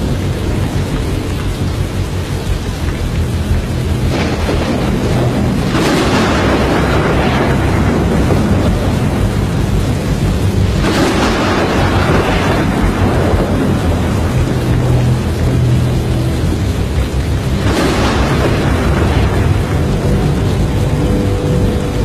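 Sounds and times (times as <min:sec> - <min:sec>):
loud rushing wind surges: 0:00.0 - 0:22.0
wind and rain roaring: 0:00.0 - 0:22.0.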